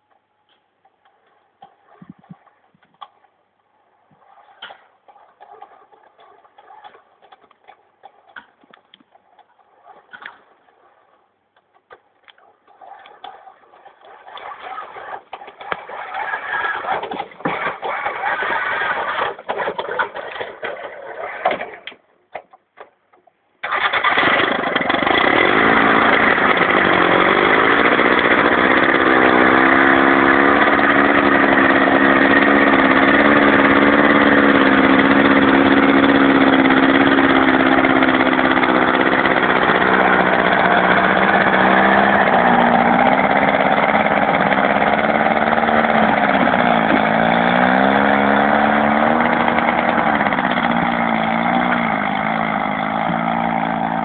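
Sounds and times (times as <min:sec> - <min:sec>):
tractor engine running: 0:04.2 - 0:22.0, 0:23.6 - 0:54.0.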